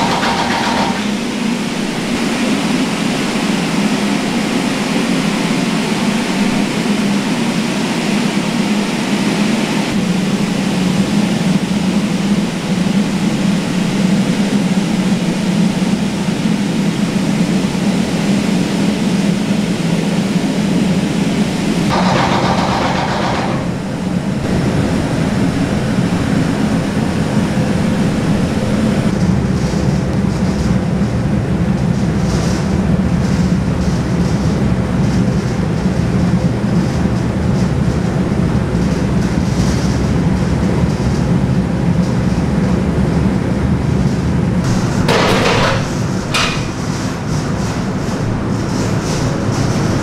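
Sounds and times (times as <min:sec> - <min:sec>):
factory machinery drone: 0:00.0 - 0:50.0.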